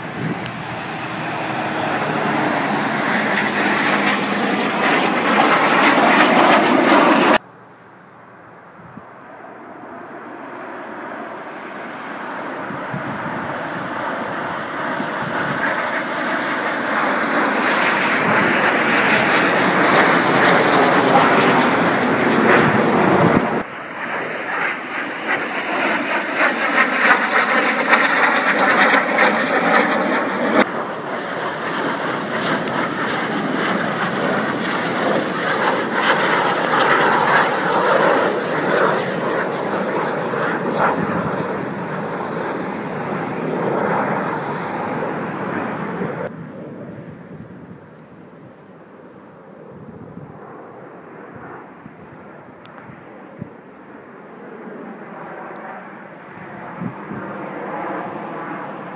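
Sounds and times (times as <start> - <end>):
jets flying past: 0.0 - 58.9.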